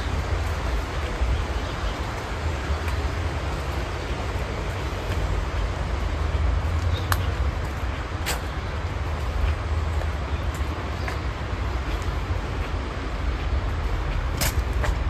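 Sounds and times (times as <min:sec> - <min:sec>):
low unsteady rumble: 0:00.0 - 0:15.0.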